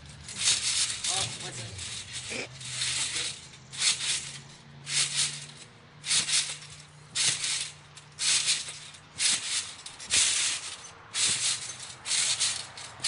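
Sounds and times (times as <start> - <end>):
trampoline springs rattling: 0.0 - 13.0.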